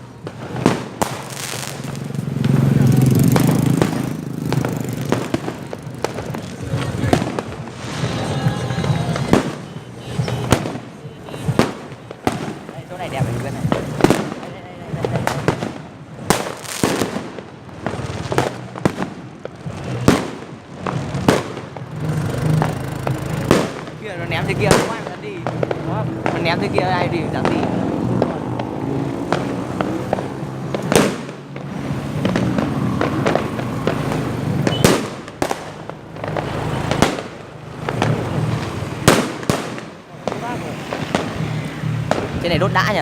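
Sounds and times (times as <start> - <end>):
fireworks banging: 0.0 - 43.0
hissing crackle: 0.0 - 43.0.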